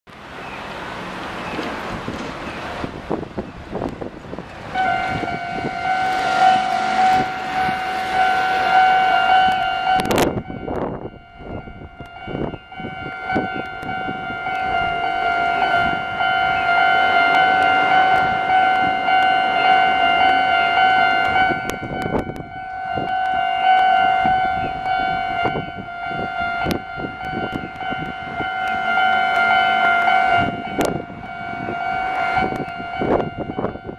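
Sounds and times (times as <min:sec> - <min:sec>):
loud rush of noise: 0:00.3 - 0:33.9
level crossing alarm ringing: 0:04.7 - 0:33.9.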